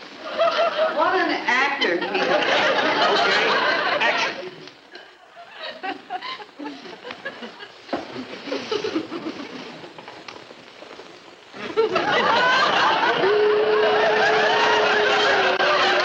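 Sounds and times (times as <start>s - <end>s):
audience laughter: 0.2s - 1.0s, 1.8s - 10.0s, 11.6s - 16.0s.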